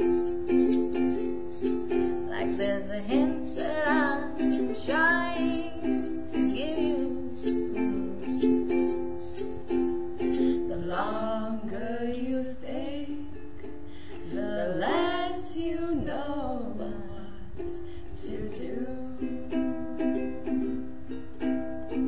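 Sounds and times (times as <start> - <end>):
person singing: 0.0 - 21.2
ukuleles strummed: 0.0 - 22.0.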